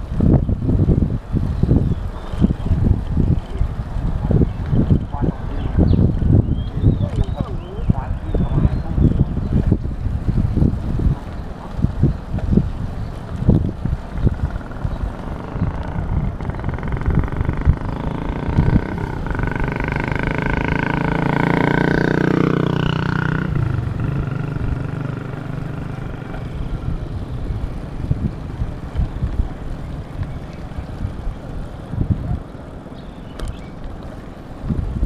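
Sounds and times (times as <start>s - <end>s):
motor engine passing: 0.0s - 35.0s
wind buffeting microphone: 0.0s - 35.0s.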